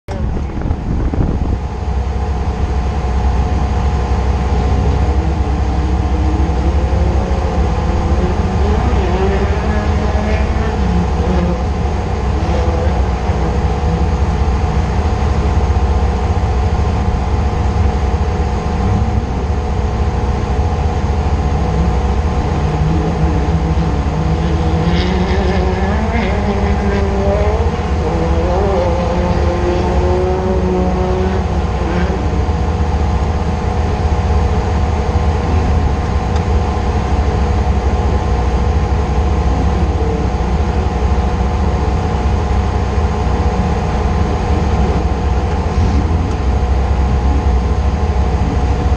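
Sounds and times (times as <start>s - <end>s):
heavy low rumble: 0.0s - 48.9s
race vehicle engine revving: 0.0s - 48.9s.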